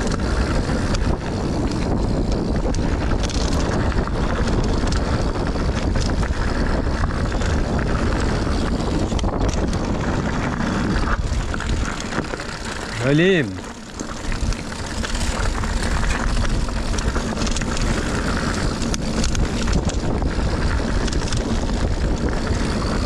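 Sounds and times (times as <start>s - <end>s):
bike clicks and rattles: 0.0s - 23.0s
bike tyres rumbling on dirt: 0.0s - 23.0s
wind buffeting microphone: 0.0s - 23.0s.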